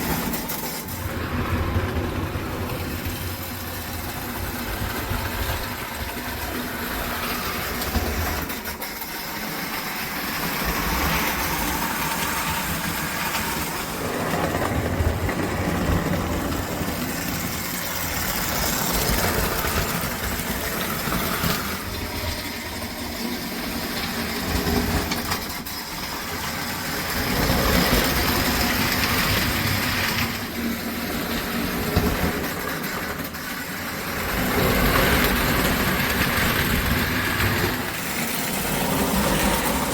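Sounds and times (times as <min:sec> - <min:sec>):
toy train clattering on rails: 0:00.0 - 0:39.9.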